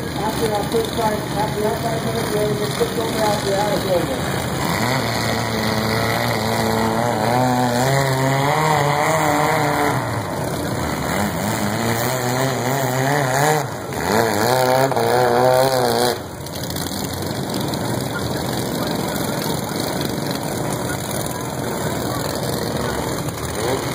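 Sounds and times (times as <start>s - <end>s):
riding lawn mower engines revving: 0.0s - 23.9s.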